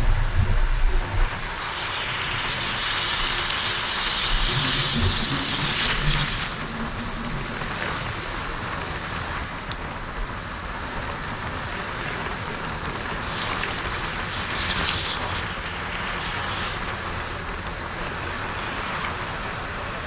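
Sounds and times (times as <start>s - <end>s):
vehicle running rush: 0.0s - 20.0s.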